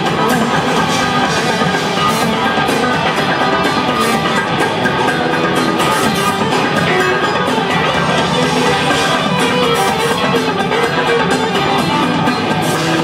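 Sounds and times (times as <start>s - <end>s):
drum kit: 0.0s - 13.0s
electric bass: 0.0s - 13.0s
electric guitar: 0.0s - 13.0s.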